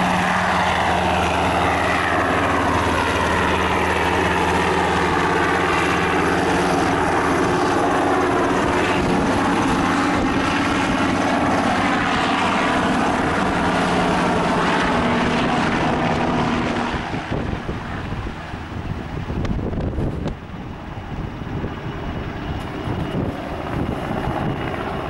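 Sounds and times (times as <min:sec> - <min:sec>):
helicopter passing overhead: 0:00.0 - 0:25.0.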